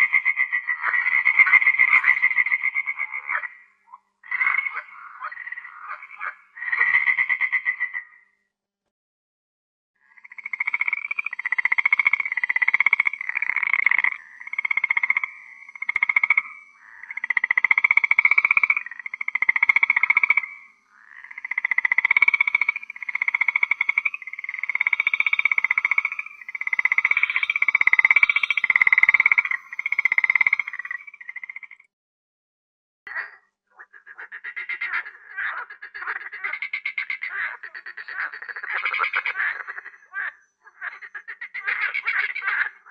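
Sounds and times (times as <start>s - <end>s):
frog croaking: 0.0s - 8.4s, 10.0s - 31.9s, 33.1s - 42.9s.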